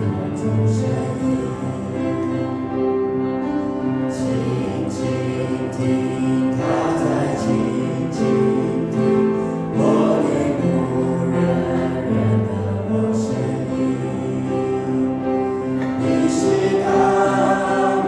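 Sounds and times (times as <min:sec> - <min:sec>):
instrumental accompaniment: 0:00.0 - 0:18.0
voices singing a hymn: 0:00.0 - 0:18.0.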